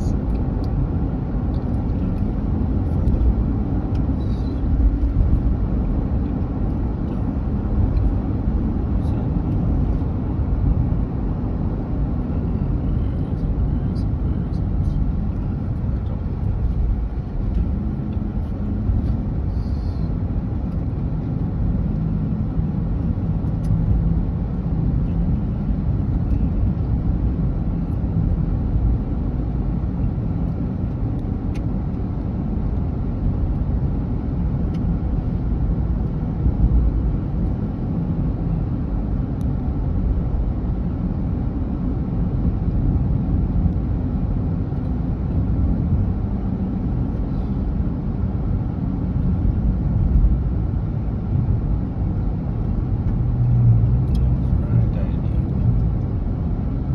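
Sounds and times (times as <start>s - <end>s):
car engine and tyre rumble: 0.0s - 56.9s.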